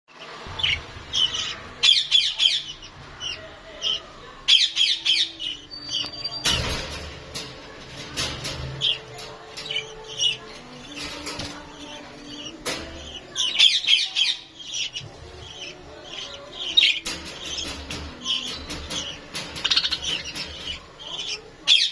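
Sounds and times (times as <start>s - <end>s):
birds chirping and squawking: 0.1s - 21.9s.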